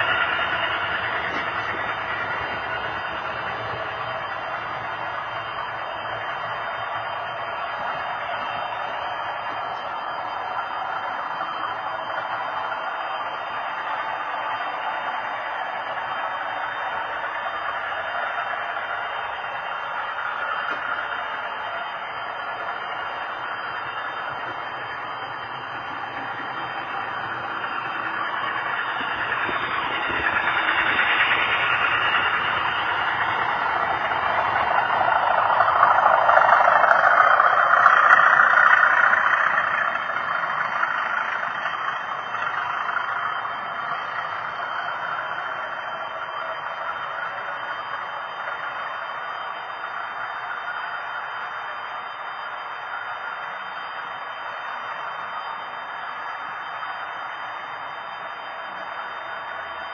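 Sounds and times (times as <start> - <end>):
model trains rolling on track: 0.0 - 59.9.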